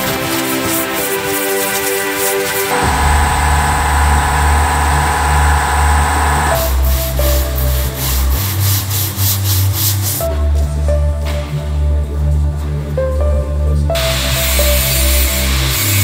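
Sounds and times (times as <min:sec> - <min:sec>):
electronic music with deep bass: 0:02.7 - 0:16.0.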